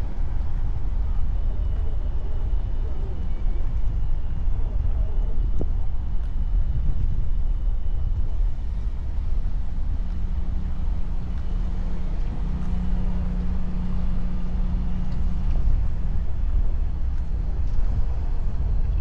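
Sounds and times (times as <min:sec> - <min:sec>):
car engine and tyre rumble: 0:00.0 - 0:19.0
low hum: 0:00.0 - 0:19.0.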